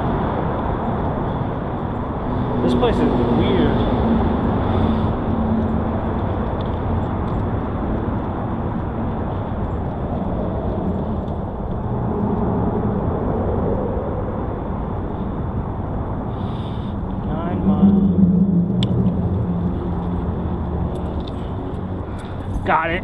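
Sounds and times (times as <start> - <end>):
bicycle rolling noise: 0.0 - 23.0
wind rushing on microphone: 0.0 - 23.0.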